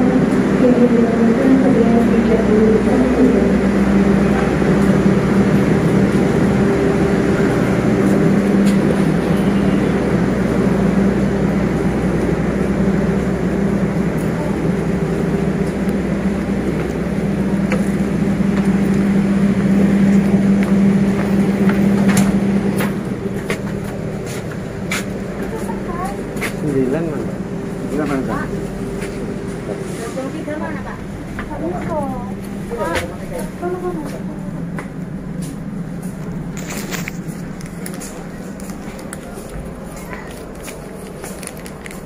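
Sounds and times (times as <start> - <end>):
stationary train drone: 0.0 - 42.0.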